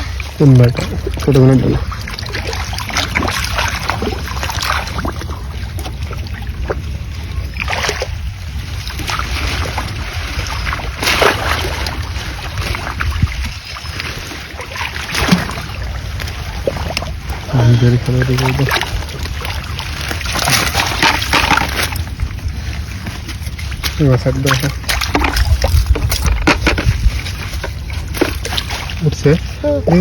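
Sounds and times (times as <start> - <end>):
water splashes: 0.0 - 30.0
wind rumbling on microphone: 0.0 - 30.0.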